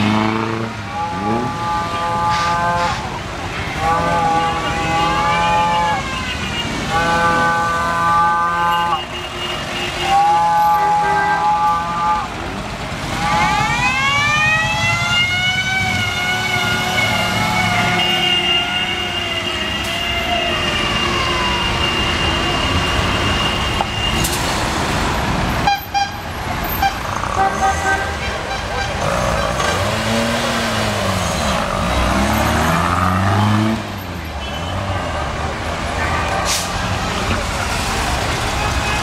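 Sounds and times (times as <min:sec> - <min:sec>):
traffic with running engines: 0:00.0 - 0:39.0.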